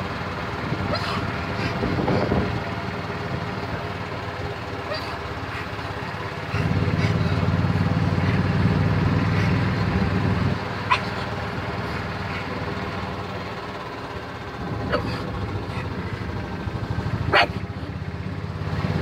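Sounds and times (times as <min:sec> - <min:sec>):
golf cart motor hum: 0:00.0 - 0:19.0.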